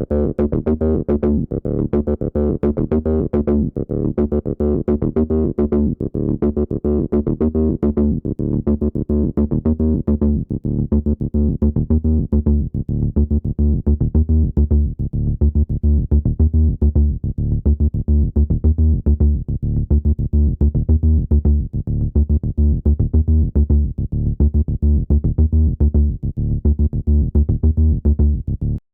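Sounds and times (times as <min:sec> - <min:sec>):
bass synthesizer sequence: 0:00.0 - 0:28.8.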